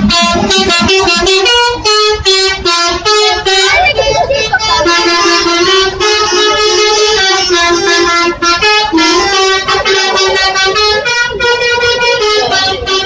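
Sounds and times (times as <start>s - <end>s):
bus musical horn melody: 0.0s - 13.0s.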